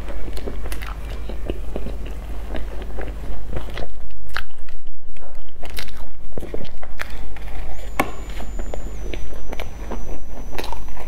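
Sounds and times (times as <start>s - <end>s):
pastry crust crunching and crackling: 0.0s - 11.0s.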